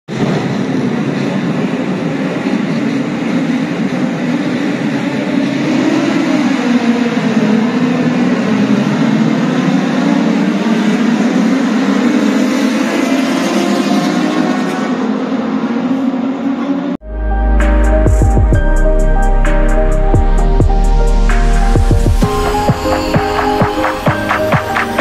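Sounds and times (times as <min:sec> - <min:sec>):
race car engines droning: 0:00.1 - 0:25.0.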